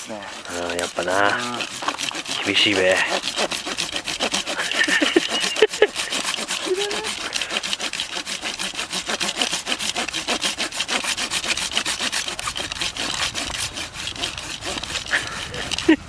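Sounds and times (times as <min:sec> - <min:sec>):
hand saw cutting wood: 0:00.0 - 0:16.0.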